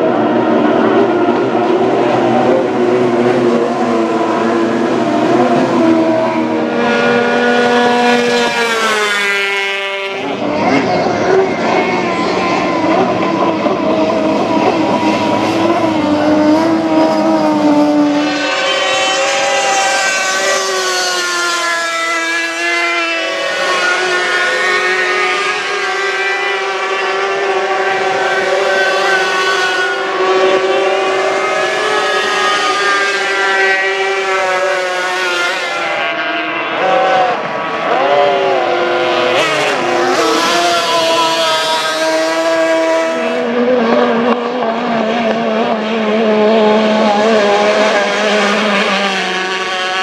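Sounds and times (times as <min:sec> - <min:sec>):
outboard engines whining: 0:00.0 - 0:50.0.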